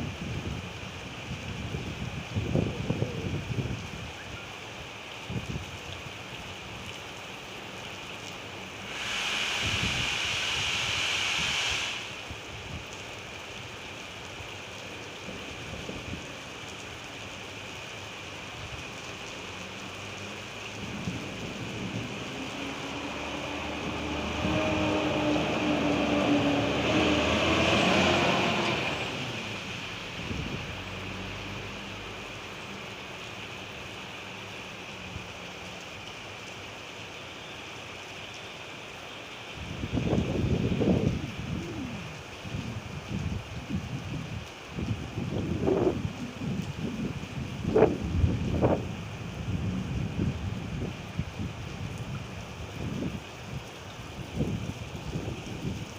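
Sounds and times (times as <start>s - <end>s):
rain falling: 0.0s - 55.9s.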